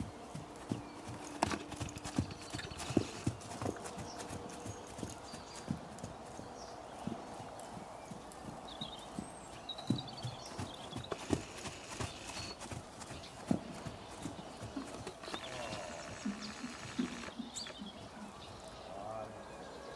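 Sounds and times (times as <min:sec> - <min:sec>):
horse hoofbeats on sand: 0:00.0 - 0:18.7.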